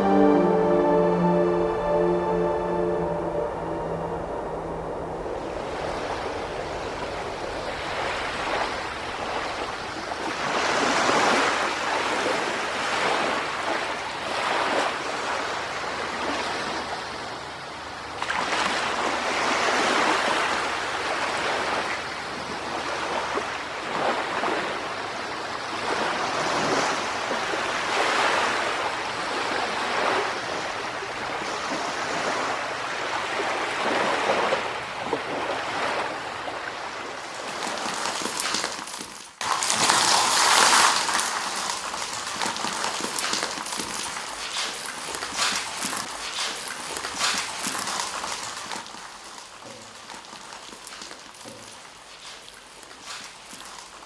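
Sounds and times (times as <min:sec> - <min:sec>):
waves washing onto beach: 0:00.0 - 0:54.0.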